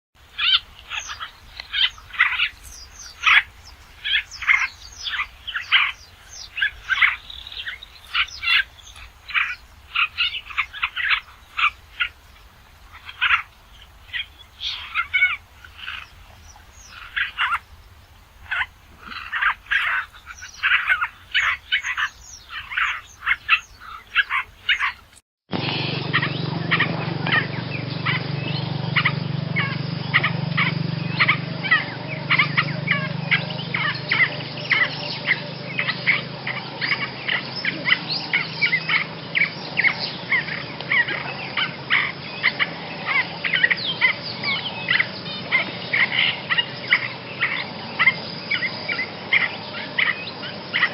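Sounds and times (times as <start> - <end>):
reed warbler singing: 0.2 - 50.9.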